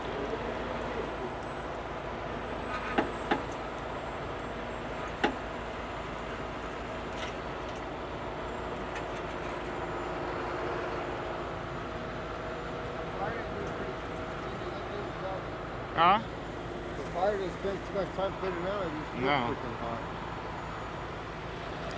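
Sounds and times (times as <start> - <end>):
traffic drone: 0.0 - 21.9.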